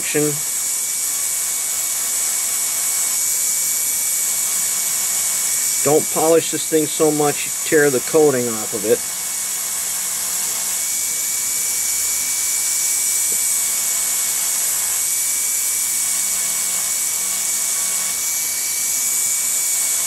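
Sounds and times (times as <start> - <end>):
rotary tool motor whine: 0.0 - 20.0
wire brush hiss: 0.0 - 20.0.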